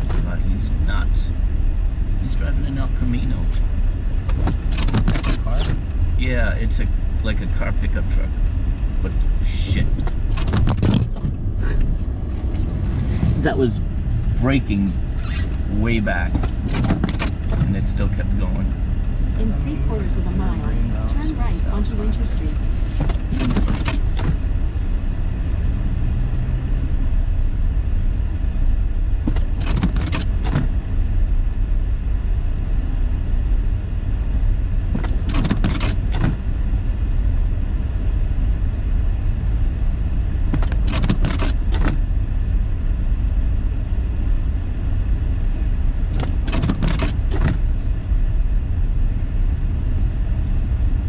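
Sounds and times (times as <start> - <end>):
car road and engine rumble: 0.0 - 51.0.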